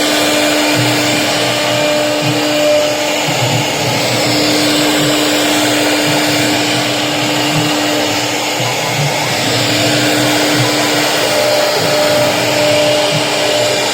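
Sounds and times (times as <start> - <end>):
bit cutting board rushing: 0.0 - 13.9
higher whine: 0.0 - 13.9
router spindle whine: 0.0 - 13.9.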